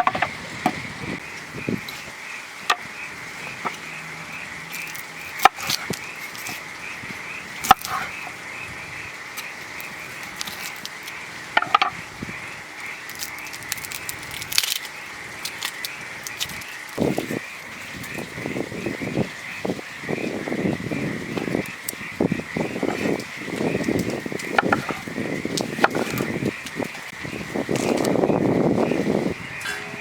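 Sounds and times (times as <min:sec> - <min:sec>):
pulsing chorus of frogs or insects: 0:00.0 - 0:30.0.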